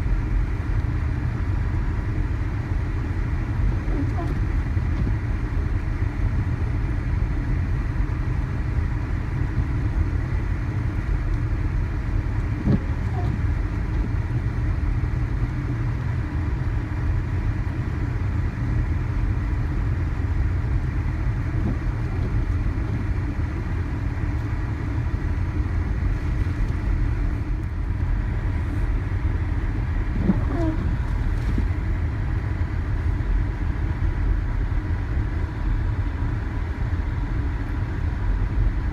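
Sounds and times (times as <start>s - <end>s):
car driving through snow: 0.0s - 38.9s.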